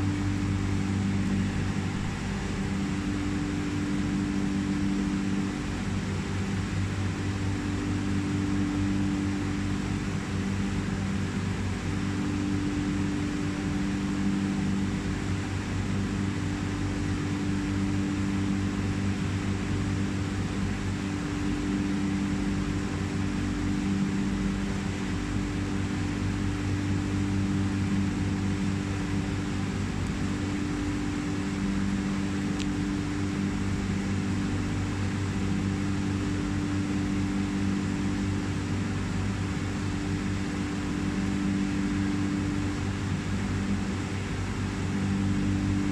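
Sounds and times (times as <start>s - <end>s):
aquarium equipment humming: 0.0s - 45.9s
constant hiss: 0.0s - 45.9s.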